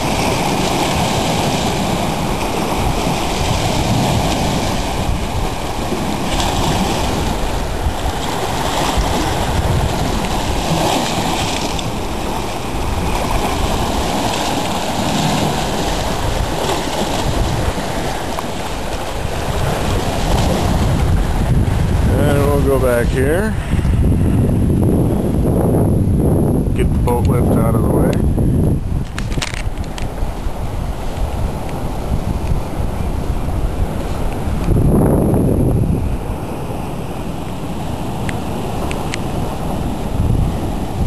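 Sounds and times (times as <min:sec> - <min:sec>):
waves crashing on shore: 0:00.0 - 0:41.0
wind buffeting microphone: 0:00.0 - 0:41.0.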